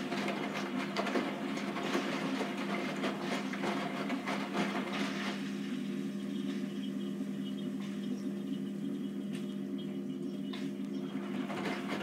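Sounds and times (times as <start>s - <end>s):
washing machine motor hum: 0.0s - 12.0s
water sloshing in washing machine: 0.0s - 12.0s.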